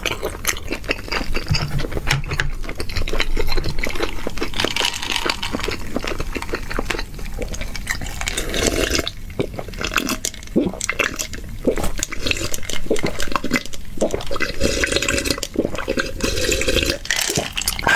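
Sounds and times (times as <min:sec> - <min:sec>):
person gulping: 0:00.0 - 0:04.1, 0:07.4 - 0:17.9.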